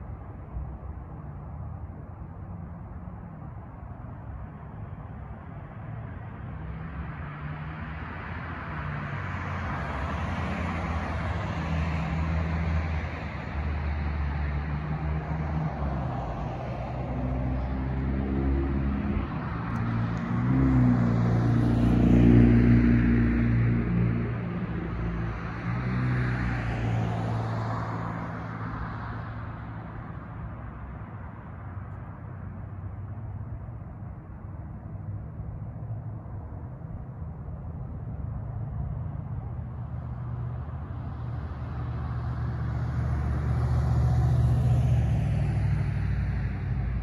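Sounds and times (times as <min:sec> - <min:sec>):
passing vehicle engine hum: 0:06.2 - 0:47.0.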